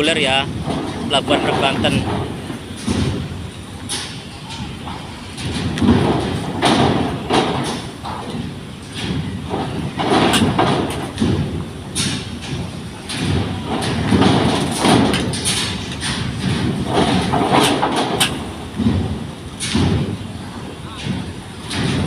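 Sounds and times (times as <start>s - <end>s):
tyres rolling: 0.0s - 22.0s
wheels thumping over ramp: 0.0s - 22.0s.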